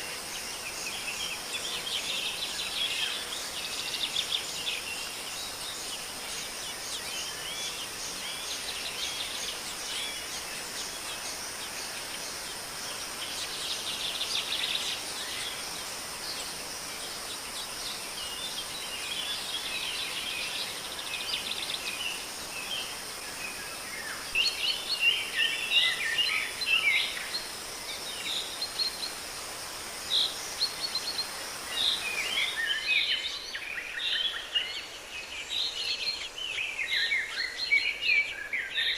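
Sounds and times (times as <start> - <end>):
high insect drone: 0.0 - 38.9
small birds chirping: 0.0 - 38.9.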